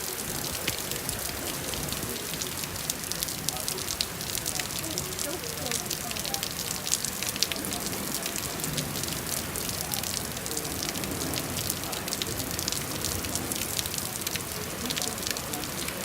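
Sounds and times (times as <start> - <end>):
raindrops ticking on hard surface: 0.0 - 16.0
steady rain falling: 0.0 - 16.0.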